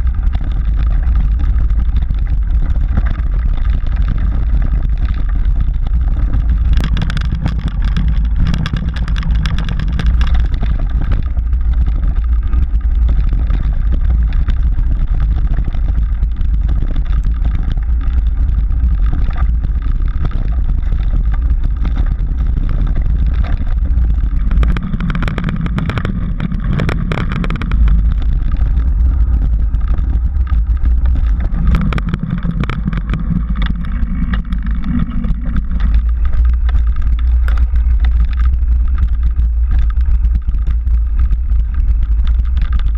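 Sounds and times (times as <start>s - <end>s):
bike rattling: 0.0s - 42.9s
wind rumble on microphone: 0.0s - 42.9s.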